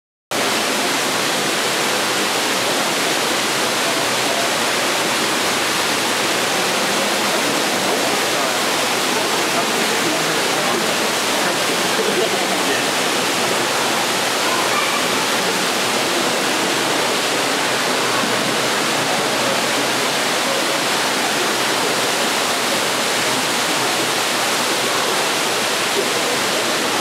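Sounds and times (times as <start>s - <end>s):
rushing noise like falling water: 0.3s - 27.0s
faint murmur of voices: 0.4s - 27.0s.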